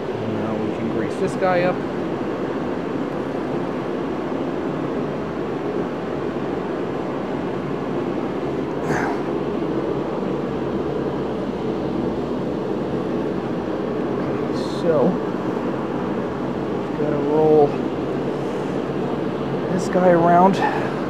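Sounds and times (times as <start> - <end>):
heater rushing noise: 0.0 - 21.0.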